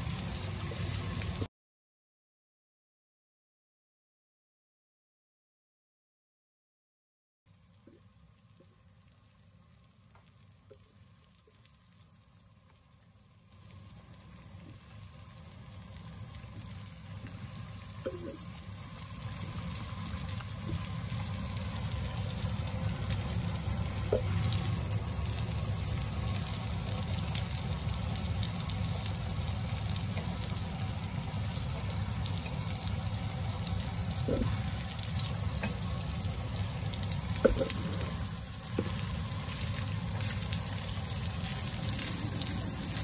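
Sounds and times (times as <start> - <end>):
fish sizzling in a pan: 0.0 - 1.5, 7.6 - 43.0
pots simmering: 7.5 - 43.0.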